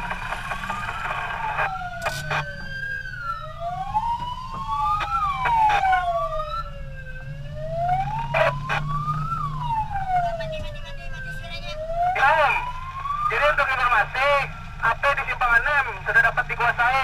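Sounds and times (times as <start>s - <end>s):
wailing sirens: 0.0s - 17.0s.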